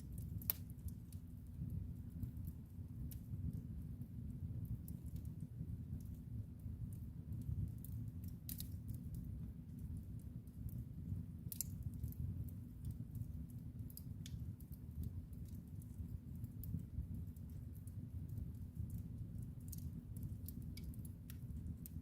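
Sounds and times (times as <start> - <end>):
fire crackles and pops: 0.0 - 22.0
wood fire rumbling: 0.0 - 22.0.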